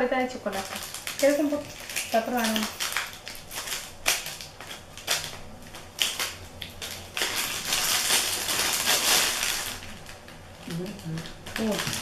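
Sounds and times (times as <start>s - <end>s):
plastic wrapper crinkling: 0.3s - 12.0s.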